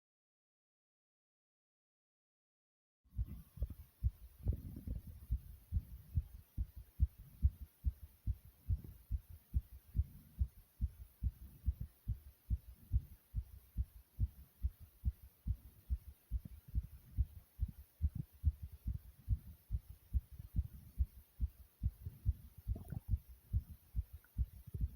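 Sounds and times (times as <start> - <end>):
fast heartbeat thuds: 3.1 - 24.9.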